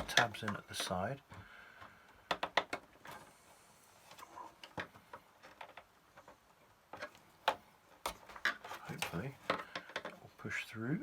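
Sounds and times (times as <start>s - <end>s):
light plastic clicks and knocks: 0.0s - 3.2s, 4.6s - 10.2s.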